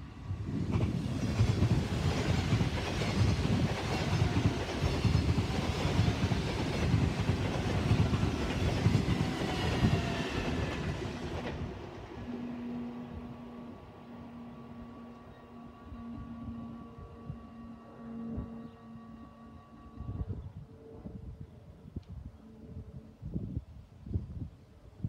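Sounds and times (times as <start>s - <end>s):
train passing at speed: 0.0s - 21.5s.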